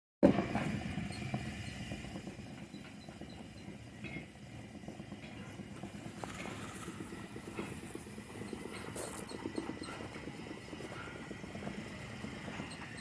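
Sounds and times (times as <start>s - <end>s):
belt conveyor rumbling: 0.2s - 13.0s
conveyor rollers clicking and knocking: 0.2s - 13.0s.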